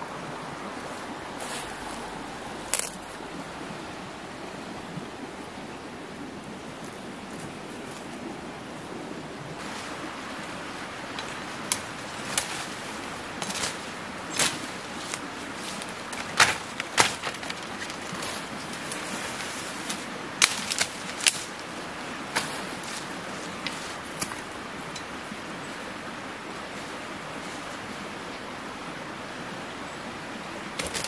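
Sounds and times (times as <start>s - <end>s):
rushing background noise: 0.0s - 31.0s.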